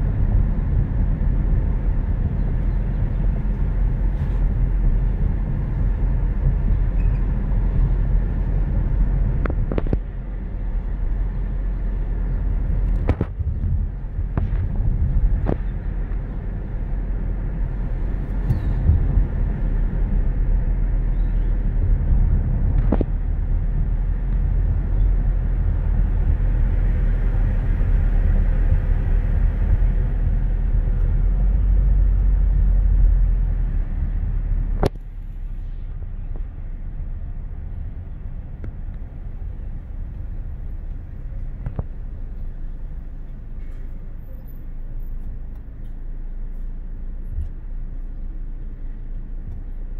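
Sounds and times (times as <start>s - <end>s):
car cabin road rumble: 0.0s - 49.9s.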